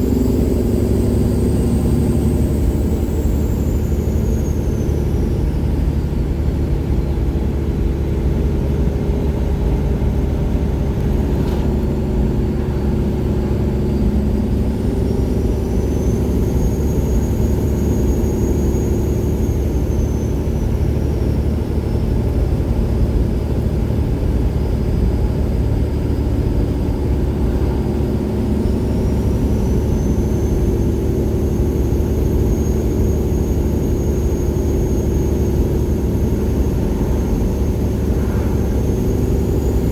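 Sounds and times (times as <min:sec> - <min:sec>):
deep diesel engine drone: 0:00.0 - 0:39.9.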